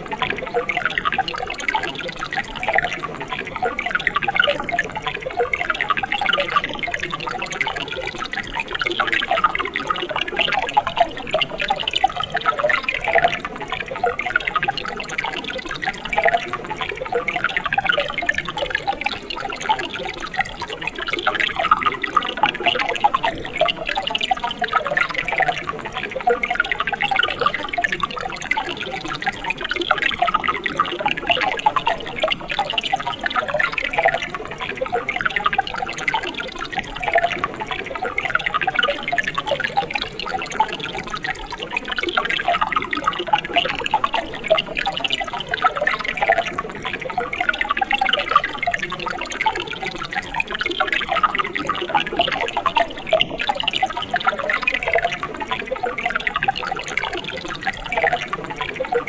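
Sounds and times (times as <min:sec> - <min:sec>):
stream water trickling and splashing: 0:00.0 - 0:59.0.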